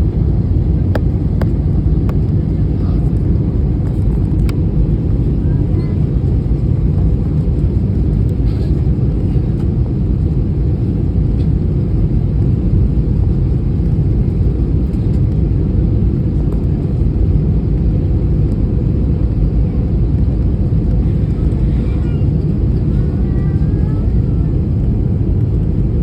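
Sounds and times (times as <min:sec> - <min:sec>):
jet airliner cabin rumble: 0:00.0 - 0:26.0.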